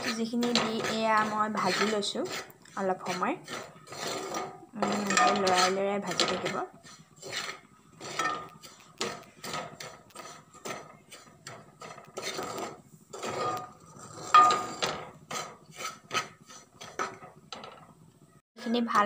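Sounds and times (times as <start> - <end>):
spoon scraping a pan: 0.0 - 18.0.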